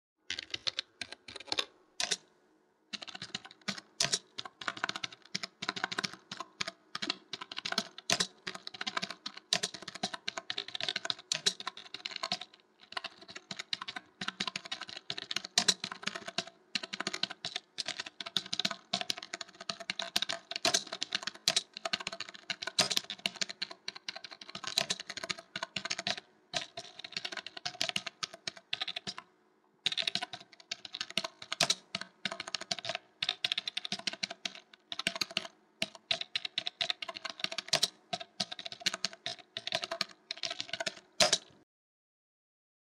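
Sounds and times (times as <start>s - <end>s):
computer keyboard typing: 0.3s - 2.3s, 2.9s - 41.6s.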